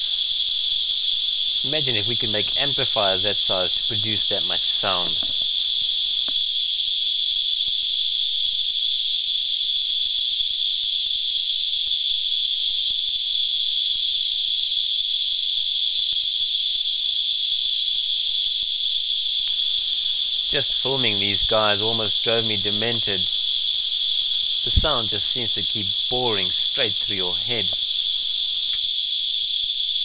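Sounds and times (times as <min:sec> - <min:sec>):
cicada singing: 0:00.0 - 0:30.0.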